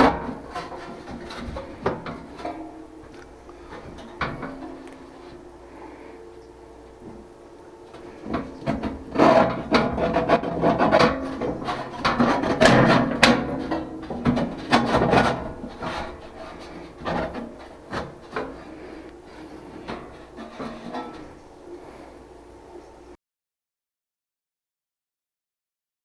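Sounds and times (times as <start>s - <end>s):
hands and tools scraping metal: 0.0s - 23.2s.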